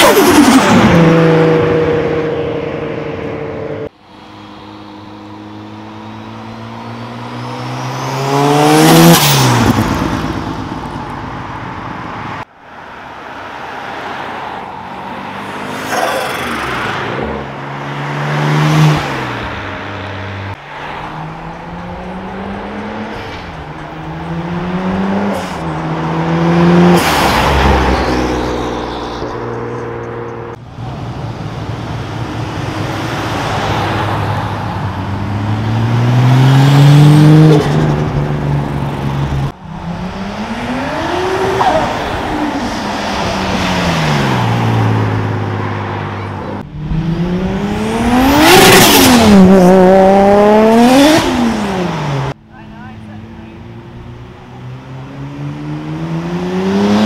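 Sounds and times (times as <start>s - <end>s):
car engine revving: 0.0s - 10.8s, 15.0s - 57.0s
cars accelerating hard: 0.0s - 10.8s, 13.5s - 57.0s.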